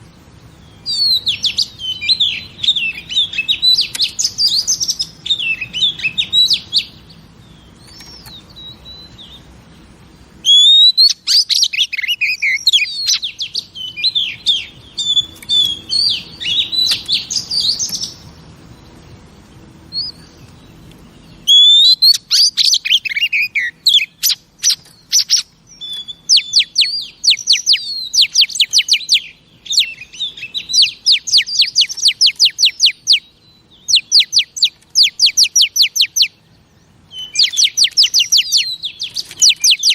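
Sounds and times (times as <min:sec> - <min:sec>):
bird singing whistles and trills: 0:00.0 - 0:09.5, 0:10.4 - 0:19.0, 0:19.8 - 0:39.9.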